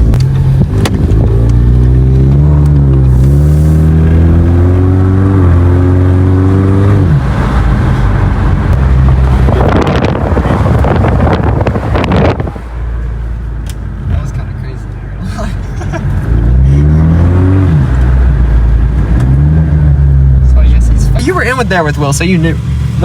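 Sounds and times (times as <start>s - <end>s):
car engine accelerating hard: 0.0s - 13.0s, 15.4s - 23.0s.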